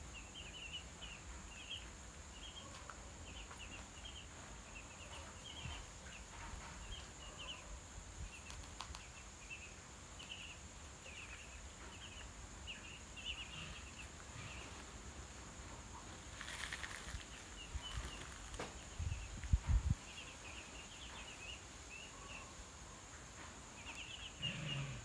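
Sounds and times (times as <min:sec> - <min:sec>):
ducklings peeping: 0:00.1 - 0:15.0, 0:15.6 - 0:22.6, 0:23.6 - 0:25.0.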